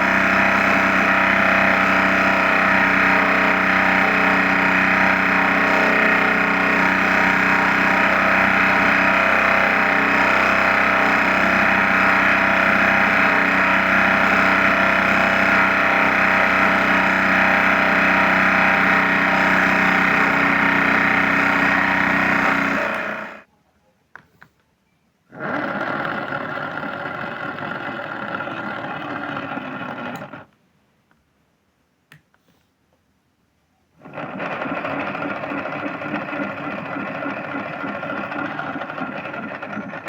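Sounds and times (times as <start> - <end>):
washing machine running with whine: 0.0 - 23.5, 25.3 - 30.5, 34.0 - 40.0.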